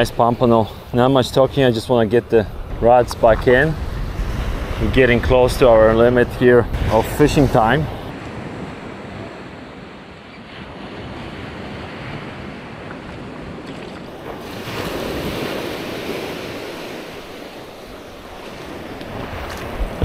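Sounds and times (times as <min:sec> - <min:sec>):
surf washing onto beach: 0:00.0 - 0:20.0
wind on microphone: 0:00.0 - 0:20.0.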